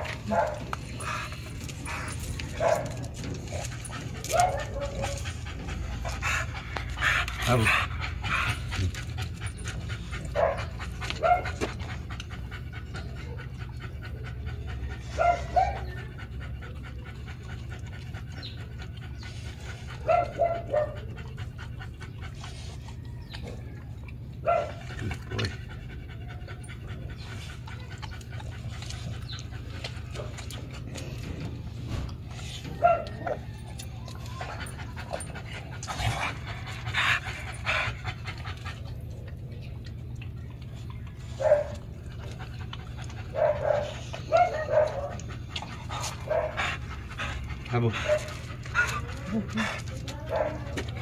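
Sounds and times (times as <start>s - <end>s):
dogs panting rapidly: 0.0s - 51.0s.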